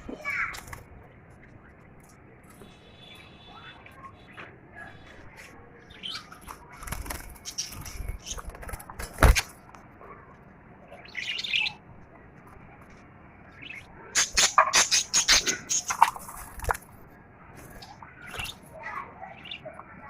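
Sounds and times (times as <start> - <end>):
birds fluttering: 0.0 - 20.0
small birds chirping: 0.0 - 20.0.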